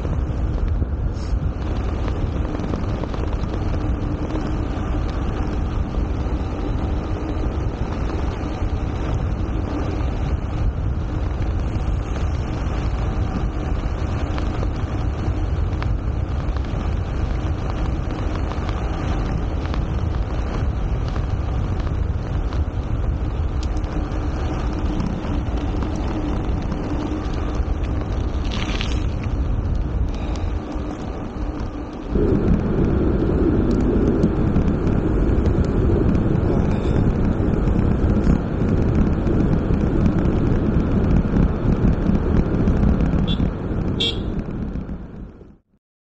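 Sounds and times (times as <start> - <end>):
bike tyres on gravel: 0.0 - 45.4
wind rushing over microphone: 0.0 - 45.8.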